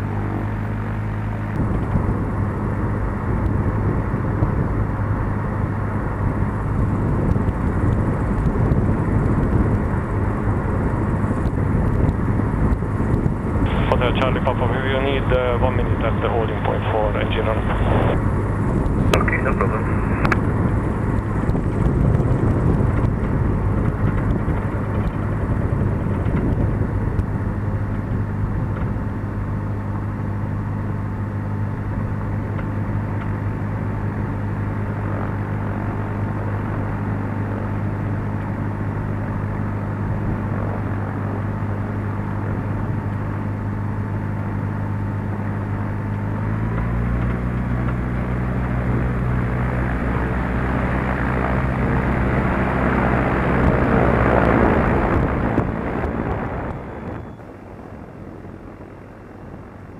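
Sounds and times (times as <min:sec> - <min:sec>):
propeller plane engine running: 0:00.0 - 0:59.9.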